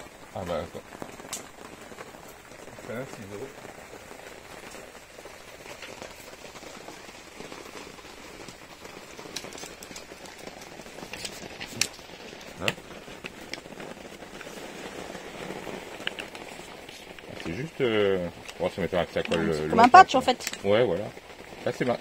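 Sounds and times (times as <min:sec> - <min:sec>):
rain on a van roof: 0:00.0 - 0:22.0.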